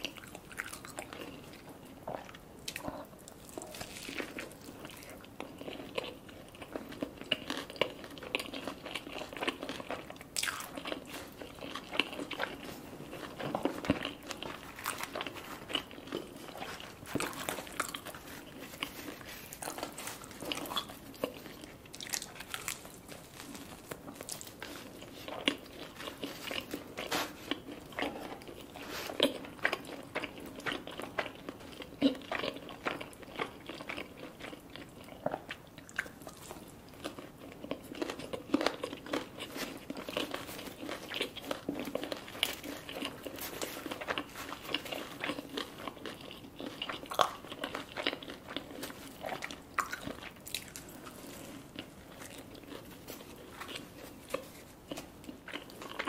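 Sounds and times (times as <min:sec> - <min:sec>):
mouth clicks and crunches: 0:00.0 - 0:56.0
person chewing food: 0:00.0 - 0:56.0.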